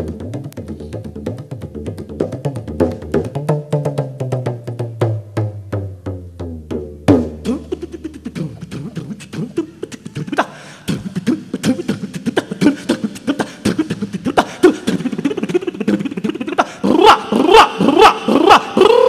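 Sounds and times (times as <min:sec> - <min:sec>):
vocal percussion: 0:00.0 - 0:05.2, 0:07.1 - 0:19.0.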